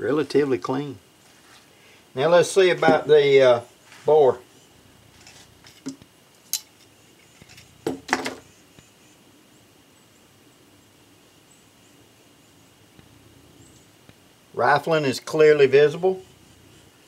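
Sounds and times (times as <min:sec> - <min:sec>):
faint steady high hum: 0:00.0 - 0:17.0.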